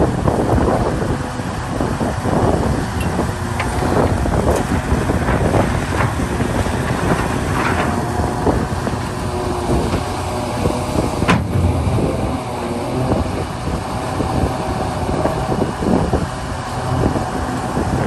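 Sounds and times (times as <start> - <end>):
excavator diesel engine: 0.0 - 18.0
hydraulic whine: 0.0 - 18.0.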